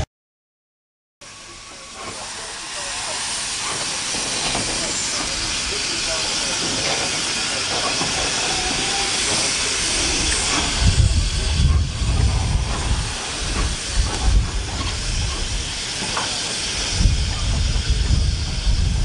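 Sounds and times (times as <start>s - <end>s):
hiss of escaping steam: 1.2s - 19.0s
locomotive rumbling and thumps: 3.6s - 19.0s.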